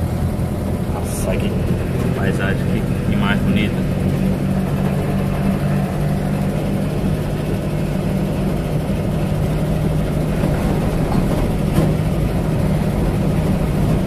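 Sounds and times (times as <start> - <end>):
car engine cruising: 0.0 - 14.0
road noise: 0.0 - 14.0.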